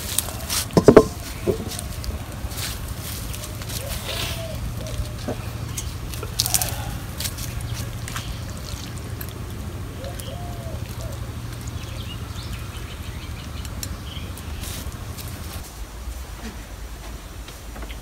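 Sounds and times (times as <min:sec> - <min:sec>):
birds chirping: 0:00.0 - 0:15.6
steady low hum: 0:00.0 - 0:17.7.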